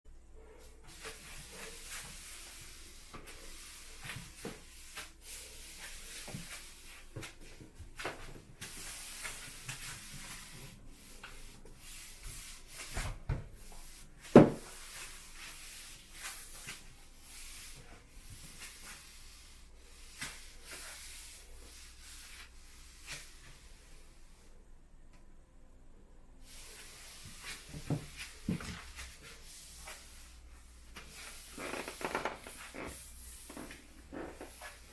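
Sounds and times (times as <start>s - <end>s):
floor mop swishing: 0.4s - 24.6s, 26.4s - 34.9s.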